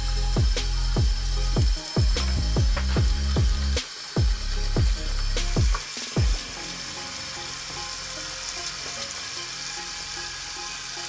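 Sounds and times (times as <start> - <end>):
faint background music: 0.0 - 11.0
tap water running into sink: 0.4 - 11.0.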